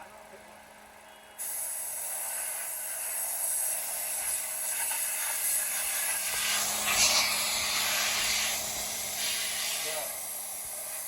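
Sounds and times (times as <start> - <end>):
hiss of escaping air: 1.4 - 11.0.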